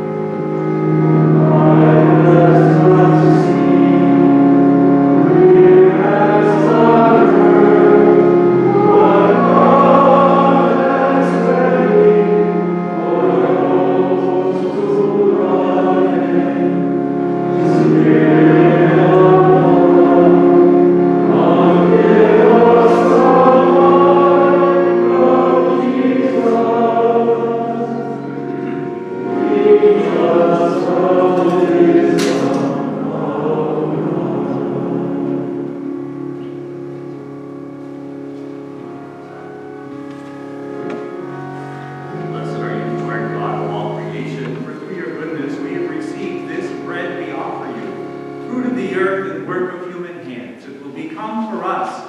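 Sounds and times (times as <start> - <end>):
choir singing a slow hymn: 0.0 - 50.4.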